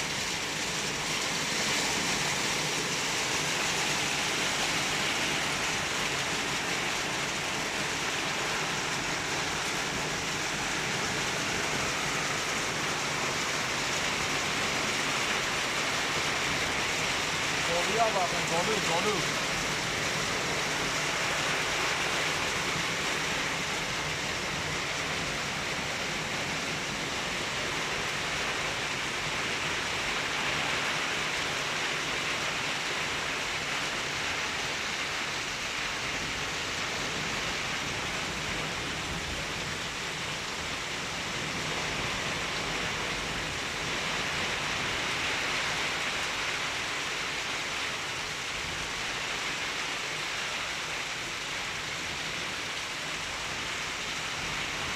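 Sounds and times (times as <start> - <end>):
hail and heavy rain: 0.0 - 54.9.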